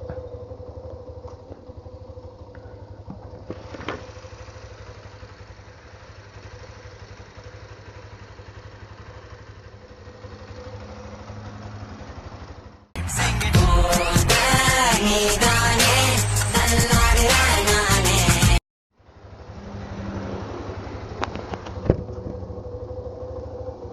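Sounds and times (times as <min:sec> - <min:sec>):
motorcycle engine idling: 0:00.0 - 0:18.2, 0:19.0 - 0:23.9.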